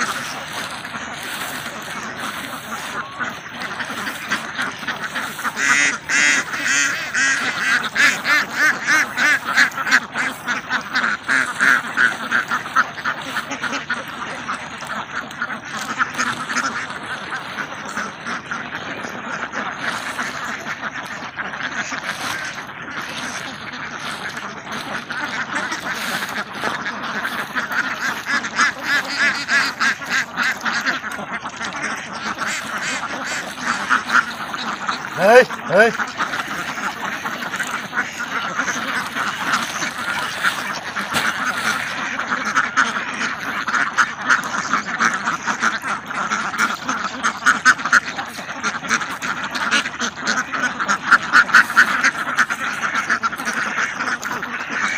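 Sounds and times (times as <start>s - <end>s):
flock of ducks quacking: 0.0s - 54.9s.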